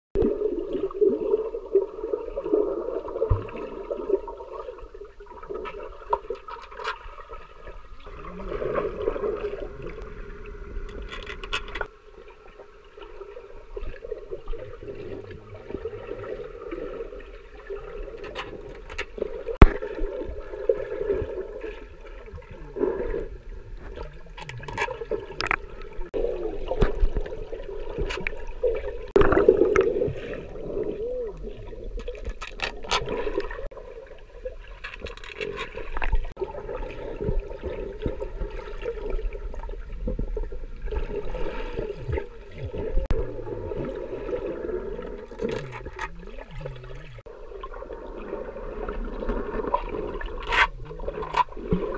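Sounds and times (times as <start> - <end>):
muffled underwater churning water: 0.2 - 51.9.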